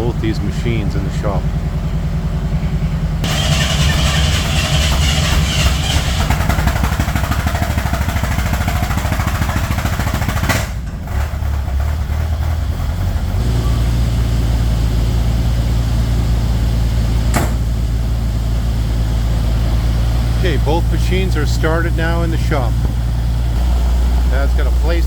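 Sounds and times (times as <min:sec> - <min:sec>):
vehicle engines idling: 0:00.0 - 0:25.0.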